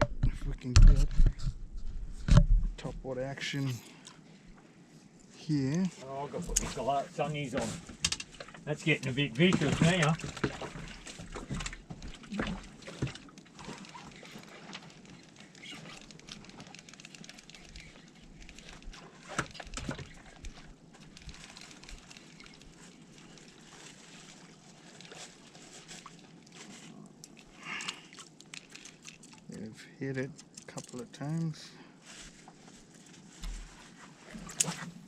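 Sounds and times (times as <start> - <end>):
outdoor background noise: 0.0 - 35.0.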